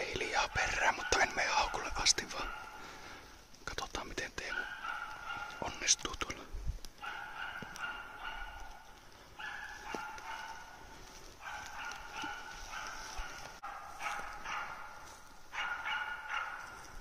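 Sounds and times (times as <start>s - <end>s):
dog barking rapidly: 0.4s - 2.9s, 4.4s - 6.0s, 7.0s - 16.9s.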